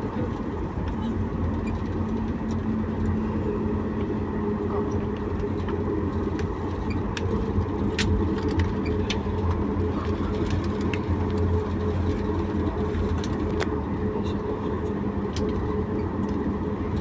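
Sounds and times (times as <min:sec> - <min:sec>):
airliner engines droning: 0:00.0 - 0:17.0
light clicks and rattles in cabin: 0:00.0 - 0:17.0.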